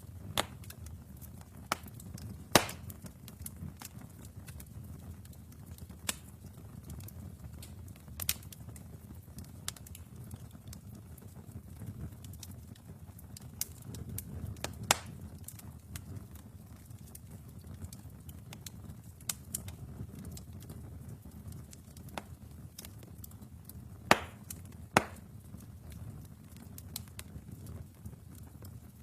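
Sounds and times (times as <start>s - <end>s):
fire crackling and popping: 0.0s - 29.0s
low rumble of flame: 0.0s - 29.0s.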